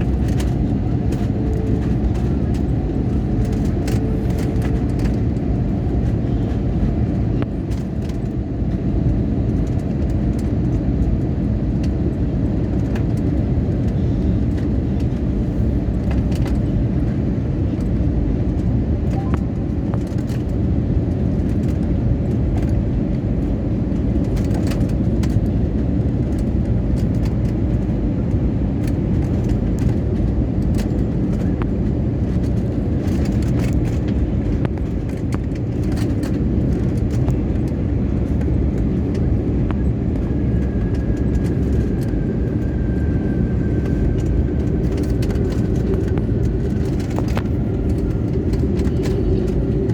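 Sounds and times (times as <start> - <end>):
airliner landing rumble: 0.0 - 49.9.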